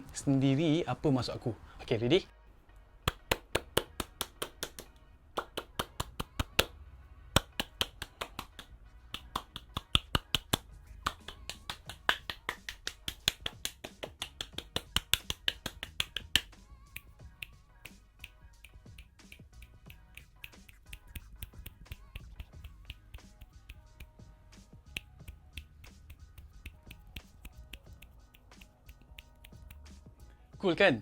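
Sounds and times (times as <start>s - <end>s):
hand claps: 3.1s - 6.8s, 7.4s - 24.2s, 24.8s - 30.0s.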